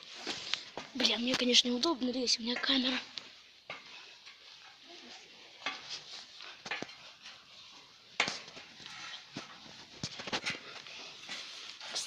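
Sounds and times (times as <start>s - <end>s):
scuffs and rustling: 0.0s - 12.0s.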